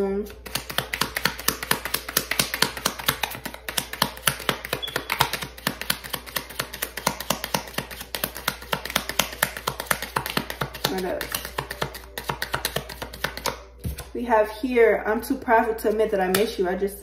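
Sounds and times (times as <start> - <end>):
cards being shuffled: 0.3 - 14.1.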